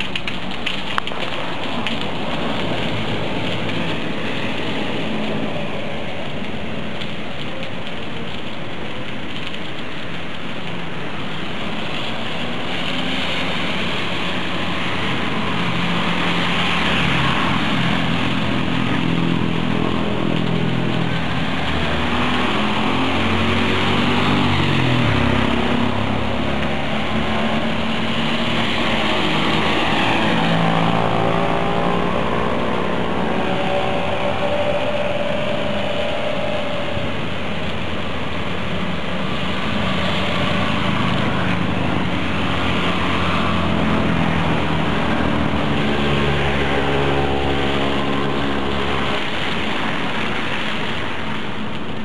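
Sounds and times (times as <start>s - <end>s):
rain hiss: 0.0s - 52.0s
tyres on wet road: 0.0s - 52.0s
vehicle engines: 0.0s - 52.0s.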